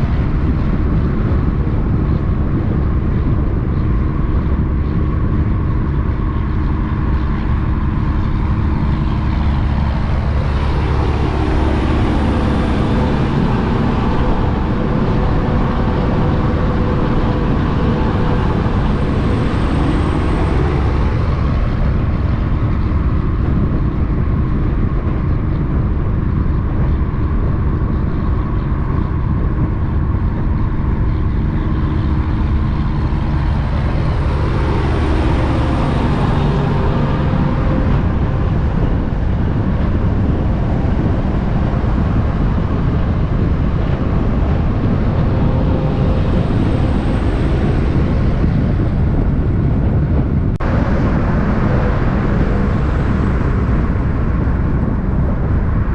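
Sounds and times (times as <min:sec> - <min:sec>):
vehicles driving past: 0:00.0 - 0:55.9.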